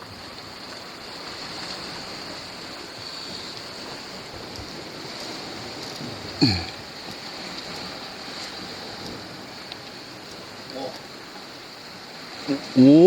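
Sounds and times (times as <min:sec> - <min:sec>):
sea surf on rocky shore: 0:00.0 - 0:13.0.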